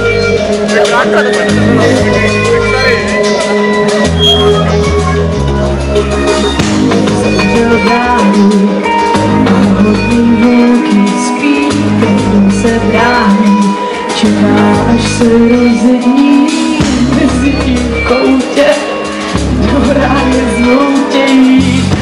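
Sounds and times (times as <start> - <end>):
pop-rock band instrumental: 0.0 - 22.0.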